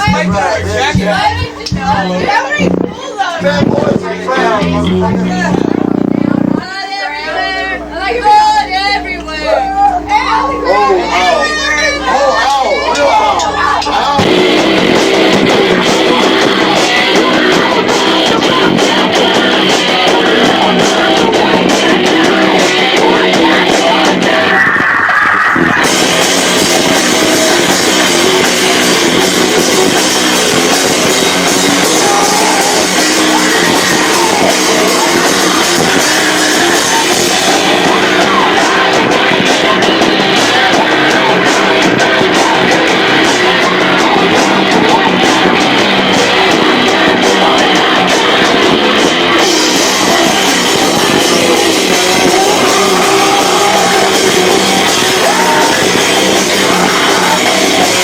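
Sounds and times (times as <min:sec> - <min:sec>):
drum kit: 0:00.0 - 0:06.6, 0:14.1 - 0:58.0
electric guitars: 0:00.0 - 0:06.6, 0:10.5 - 0:58.0.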